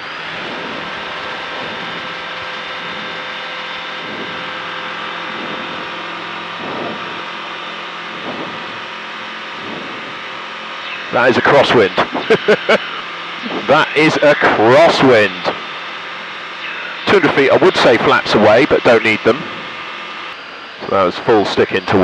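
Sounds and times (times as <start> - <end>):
microlight engine and propeller drone: 0.0 - 22.0.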